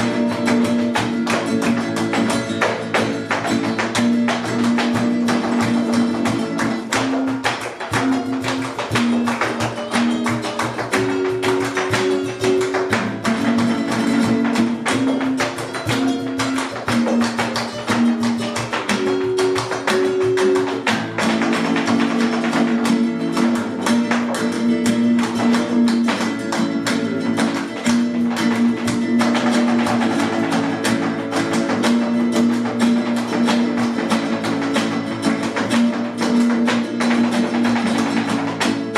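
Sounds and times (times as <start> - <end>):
flamenco guitar playing: 0.0 - 38.9.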